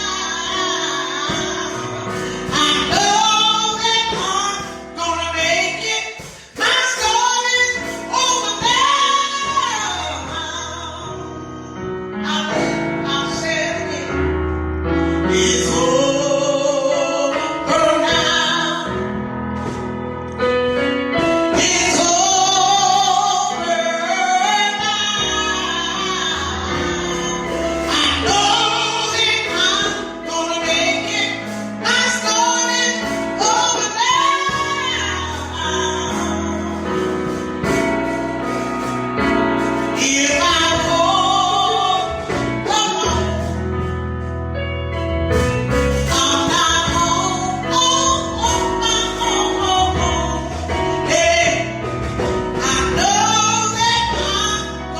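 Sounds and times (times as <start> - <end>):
woman singing gospel song: 0.0 - 14.2, 15.2 - 19.1, 21.1 - 43.6, 45.8 - 54.9
instrumental accompaniment: 0.0 - 54.9.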